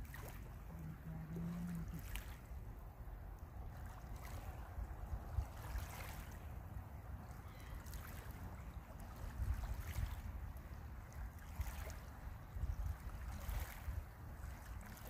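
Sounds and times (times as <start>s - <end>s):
small waves lapping on stony shore: 0.0s - 15.0s
wind buffeting microphone: 0.0s - 15.0s.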